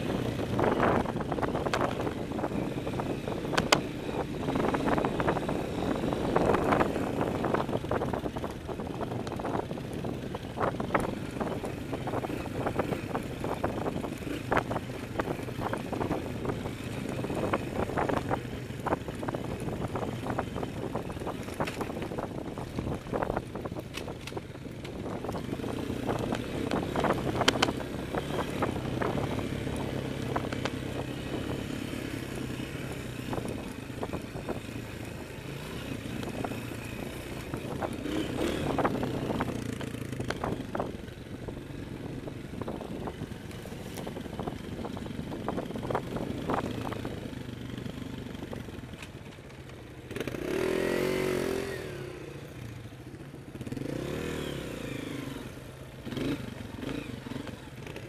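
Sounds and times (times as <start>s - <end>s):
dirt bike engine: 0.0s - 58.0s.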